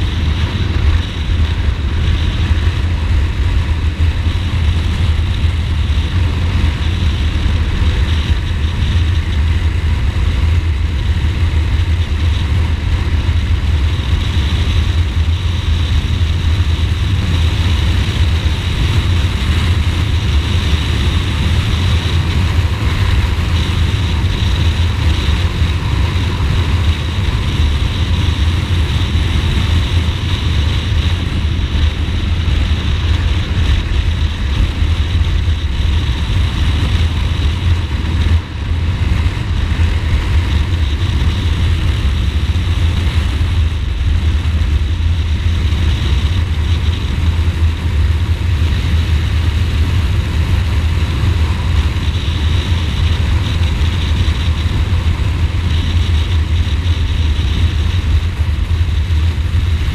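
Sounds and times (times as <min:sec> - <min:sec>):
motorcycle engine and road noise: 0:00.0 - 0:59.9.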